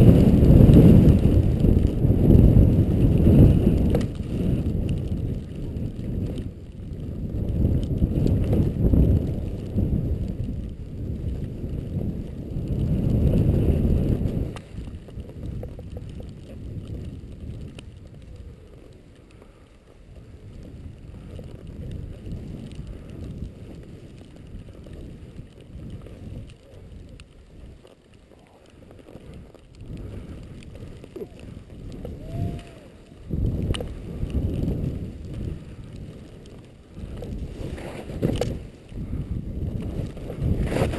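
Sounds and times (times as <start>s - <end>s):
skis sliding through snow: 0.0s - 40.9s
wind buffeting microphone: 0.0s - 40.9s.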